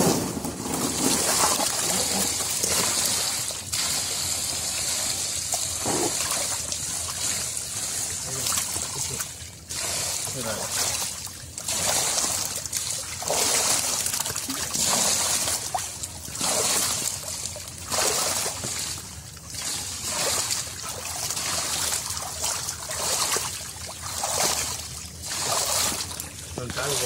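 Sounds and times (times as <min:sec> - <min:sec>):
muddy water splashing: 0:00.4 - 0:27.0.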